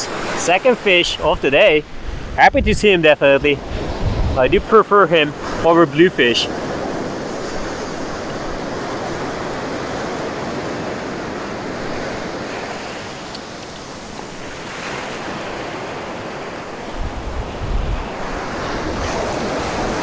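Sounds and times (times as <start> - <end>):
ocean surf washing ashore: 0.0 - 20.0
wind buffeting microphone: 1.0 - 5.7, 6.5 - 20.0.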